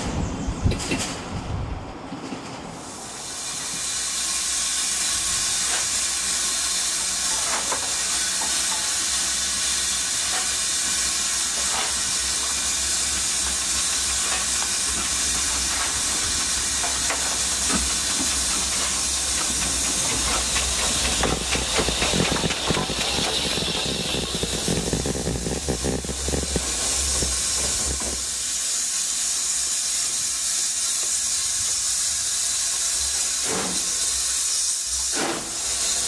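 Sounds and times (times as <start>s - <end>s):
steam hissing: 2.8s - 36.0s.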